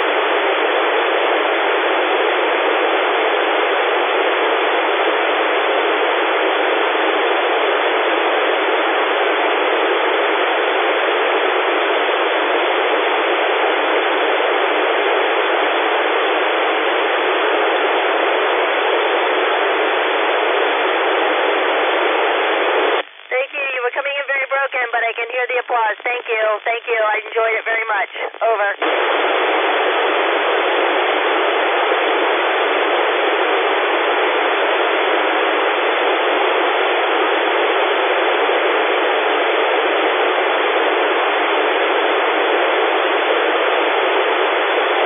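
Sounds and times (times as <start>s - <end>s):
radio static hiss: 0.0s - 45.0s.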